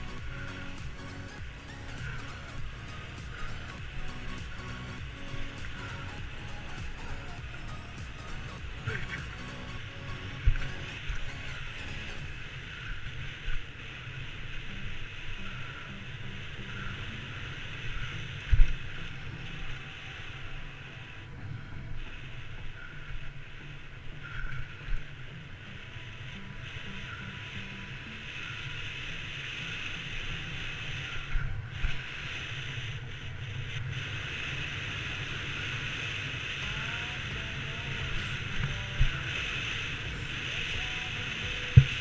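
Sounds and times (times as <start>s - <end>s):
wind and rolling noise while riding: 0.0s - 42.0s.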